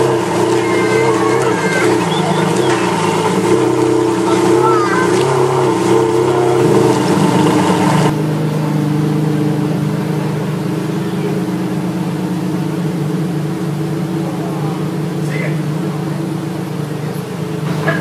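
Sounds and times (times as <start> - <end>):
crowd chatter: 0.0 - 18.0
sports car engine idling: 0.0 - 18.0.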